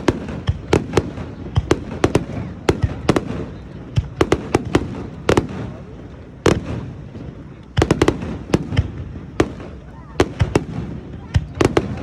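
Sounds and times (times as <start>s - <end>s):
fireworks bursting with echoes: 0.0s - 12.0s.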